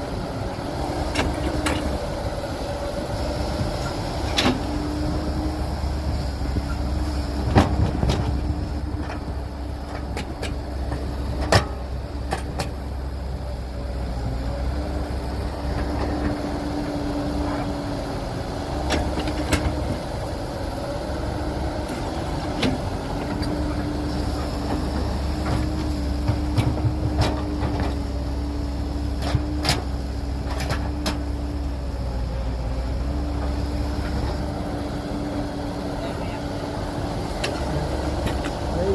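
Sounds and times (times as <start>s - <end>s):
diesel machinery rumbling: 0.0s - 38.9s.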